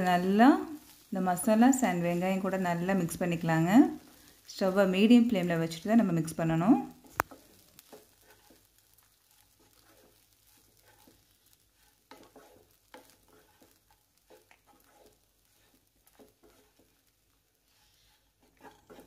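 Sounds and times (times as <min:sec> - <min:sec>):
light sizzle: 0:00.0 - 0:19.0
wooden spatula scraping a pan: 0:00.0 - 0:19.0.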